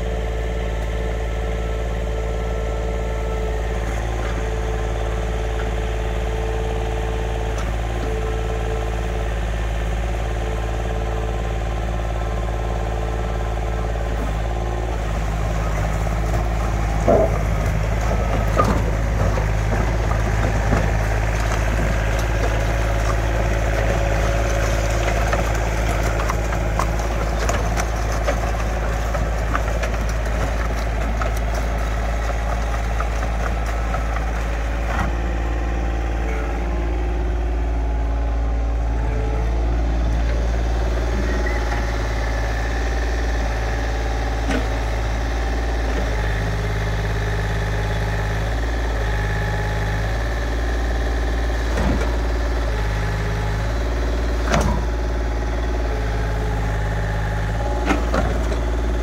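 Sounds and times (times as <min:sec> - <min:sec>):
mini excavator diesel engine: 0:00.0 - 0:59.0.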